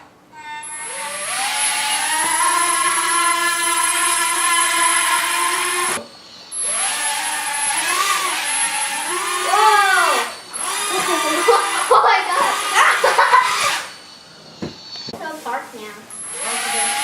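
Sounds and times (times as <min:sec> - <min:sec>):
electronic spaceship whine: 0:00.4 - 0:17.0.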